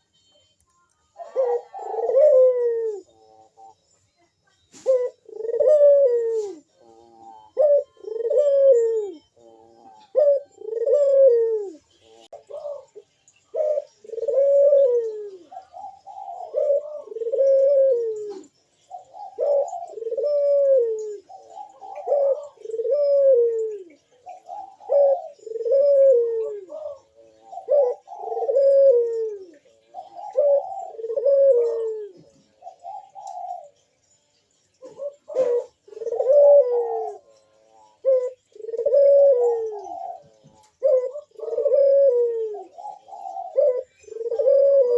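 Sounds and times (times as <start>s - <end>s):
dove cooing: 1.2s - 3.8s, 4.7s - 33.9s, 34.7s - 44.9s.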